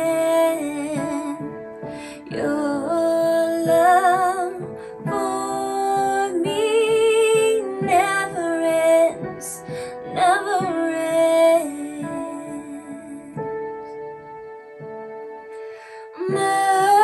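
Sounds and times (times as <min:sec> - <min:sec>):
woman singing: 0:00.0 - 0:13.6, 0:16.0 - 0:17.0
piano accompaniment: 0:00.0 - 0:17.0.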